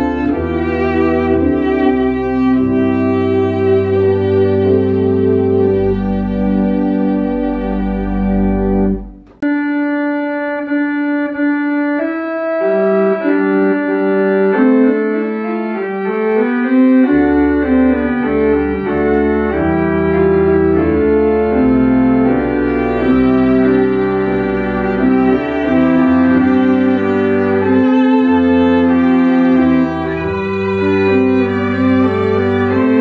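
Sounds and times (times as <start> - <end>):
church organ chords: 0.0 - 33.0
deep organ pedal notes: 0.0 - 33.0.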